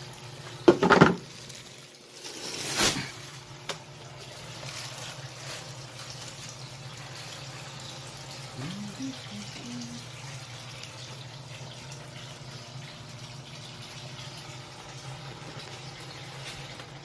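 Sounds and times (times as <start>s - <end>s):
water pouring into pool: 1.2s - 17.0s.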